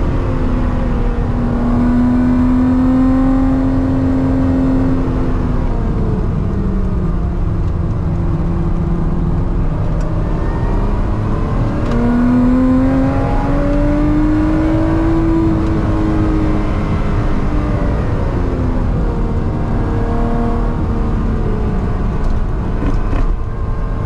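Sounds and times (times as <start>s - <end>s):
road noise: 0.0s - 24.0s
sports car engine accelerating: 0.0s - 24.0s.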